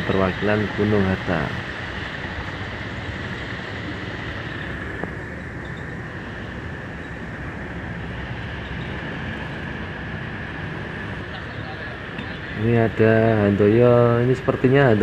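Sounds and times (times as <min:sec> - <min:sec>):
bus and motorcycle engines passing: 0:00.0 - 0:15.0.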